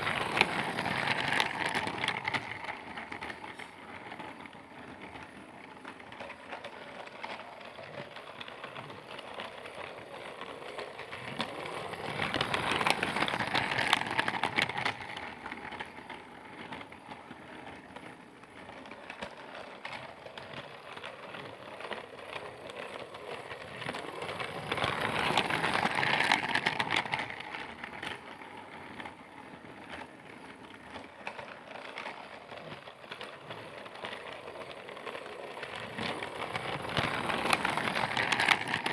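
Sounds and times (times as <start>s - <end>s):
dense clicking of toy train: 0.0s - 38.9s
toy train wheels rattling: 0.0s - 38.9s.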